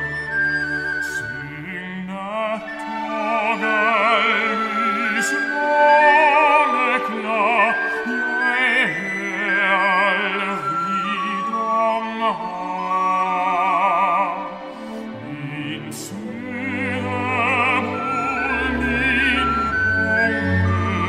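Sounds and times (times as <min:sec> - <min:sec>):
orchestral accompaniment: 0:00.0 - 0:21.0
baritone singing: 0:00.9 - 0:21.0.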